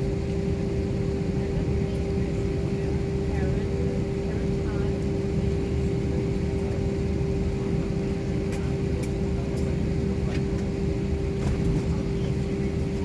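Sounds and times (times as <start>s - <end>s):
airliner cabin rumble: 0.0s - 13.0s
constant hum: 0.0s - 13.0s.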